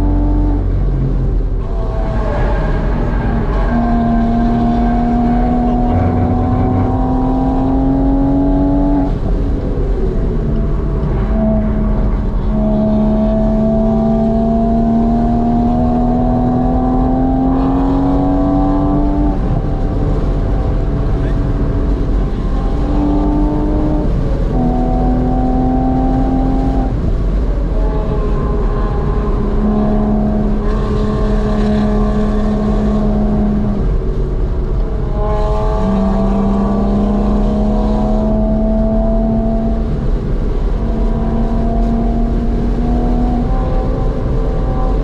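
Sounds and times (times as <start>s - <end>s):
car engine running hard: 0.0s - 45.0s
wind and road noise: 0.0s - 45.0s.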